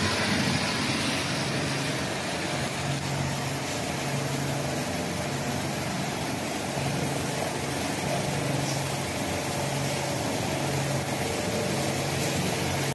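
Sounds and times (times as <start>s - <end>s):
low motor hum: 0.0s - 12.9s.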